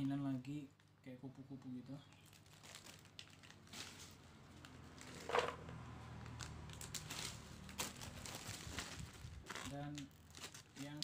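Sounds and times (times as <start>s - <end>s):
plastic snack packet crinkling: 0.0s - 5.5s, 6.2s - 11.0s.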